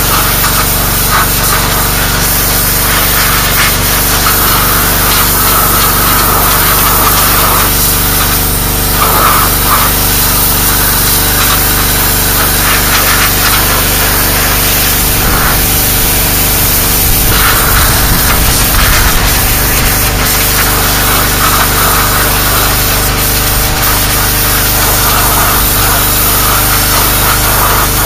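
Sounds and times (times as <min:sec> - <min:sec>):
pressure washer hum: 0:00.0 - 0:28.0
pressure washer jet spraying metal: 0:00.0 - 0:28.0.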